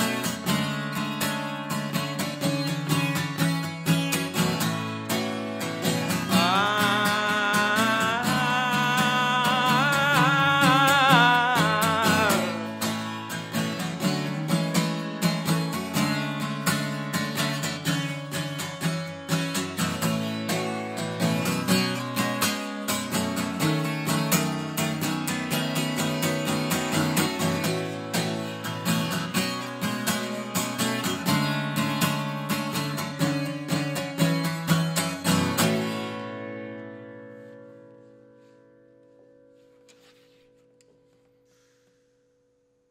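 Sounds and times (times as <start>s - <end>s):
acoustic guitar picking: 0.0s - 42.4s.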